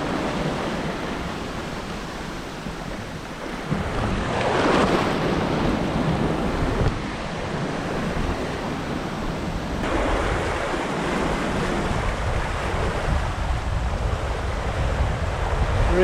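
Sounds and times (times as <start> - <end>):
water splashing past hull: 0.0 - 15.8
wind buffeting microphone: 0.0 - 16.0.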